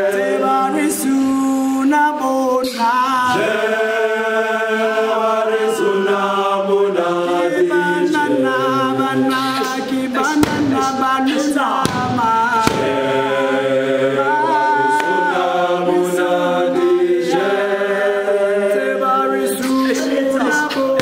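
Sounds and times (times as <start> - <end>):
men singing a cappella: 0.0 - 21.0.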